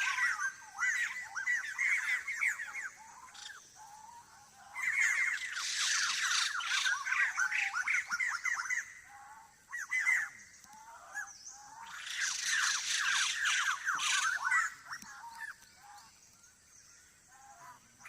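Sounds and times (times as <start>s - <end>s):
forest birds calling: 0.0s - 18.0s.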